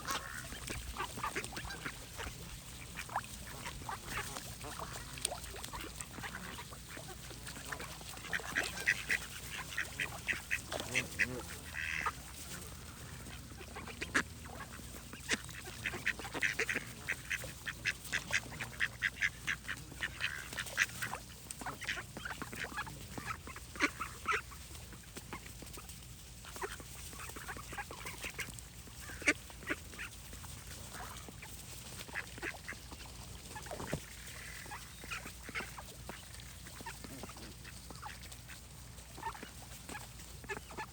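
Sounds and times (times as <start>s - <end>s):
ducks quacking: 0.0s - 40.9s.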